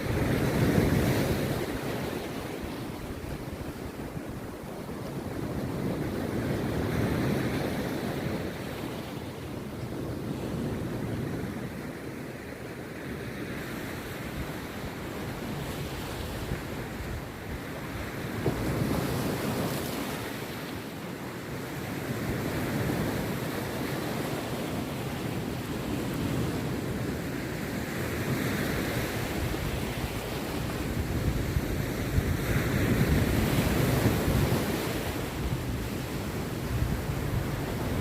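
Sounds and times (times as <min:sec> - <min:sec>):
sea surf breaking on a beach: 0:00.0 - 0:38.0.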